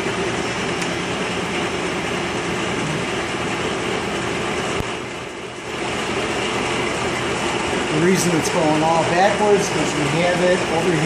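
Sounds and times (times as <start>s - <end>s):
lathe motor whirring: 0.0s - 11.0s.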